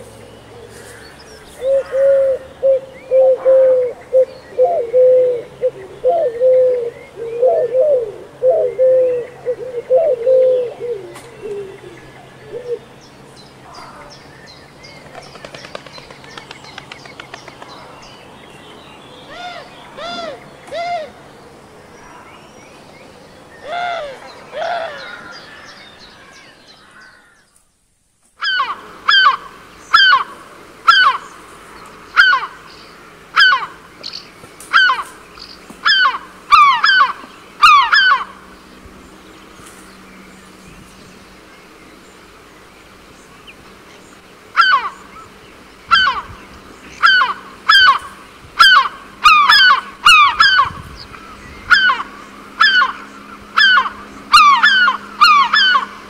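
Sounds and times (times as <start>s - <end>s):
birds calling: 0.0s - 27.7s, 28.4s - 56.0s.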